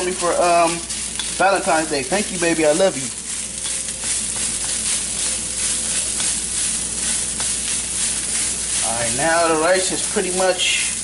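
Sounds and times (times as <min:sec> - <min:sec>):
rice sizzling in a wok: 0:00.0 - 0:11.0.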